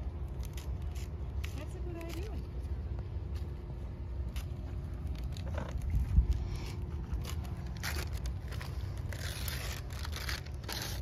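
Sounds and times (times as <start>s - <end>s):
wrapping paper rustling and tearing: 0.0s - 2.4s, 4.3s - 11.0s.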